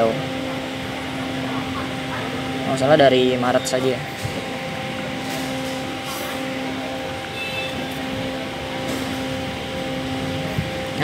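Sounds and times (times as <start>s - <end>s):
background hum and hiss: 0.0s - 11.0s
low droning tone: 0.0s - 11.0s.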